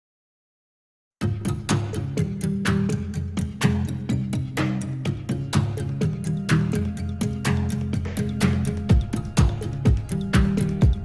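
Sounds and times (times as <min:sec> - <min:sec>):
plucked guitar-like notes: 0:01.2 - 0:11.0
upbeat background music: 0:01.2 - 0:11.0.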